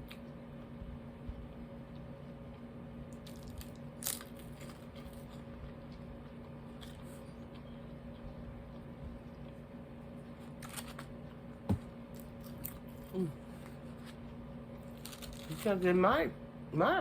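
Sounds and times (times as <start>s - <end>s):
person chewing a sandwich: 0.0s - 15.5s
steady low hum: 0.0s - 17.0s.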